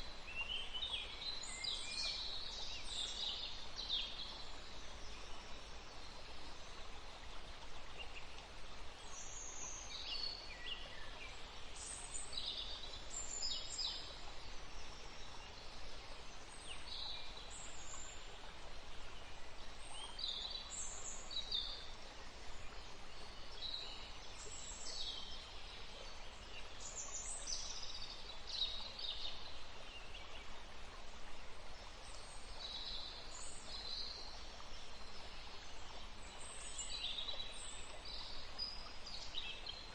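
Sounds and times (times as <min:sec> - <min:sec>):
background hiss: 0:00.0 - 0:39.9
songbirds chirping: 0:00.0 - 0:39.9.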